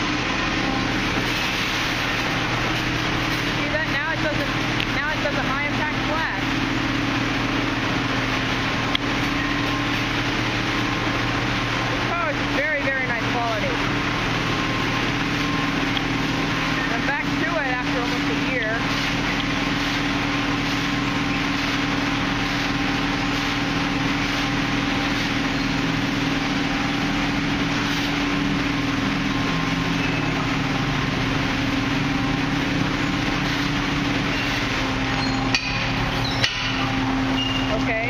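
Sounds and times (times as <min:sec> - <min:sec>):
motor hum: 0:00.0 - 0:38.0
water spraying: 0:00.0 - 0:38.0.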